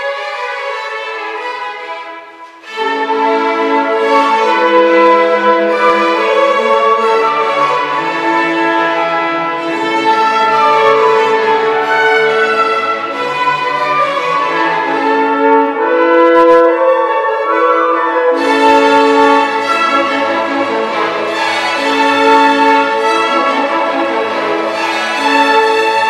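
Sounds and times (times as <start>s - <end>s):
bowed strings: 0.0s - 26.0s
french horns holding long notes: 0.1s - 26.0s.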